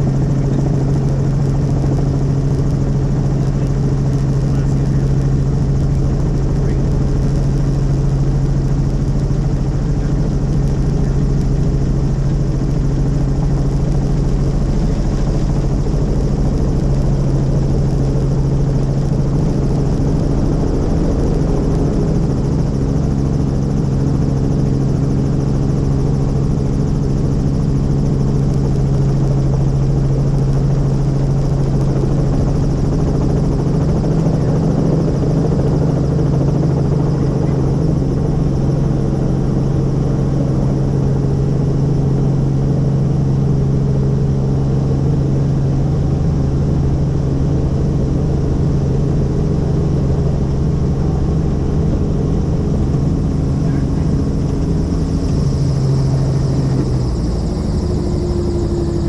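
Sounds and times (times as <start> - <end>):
helicopter engine and rotor hum: 0.0 - 59.0.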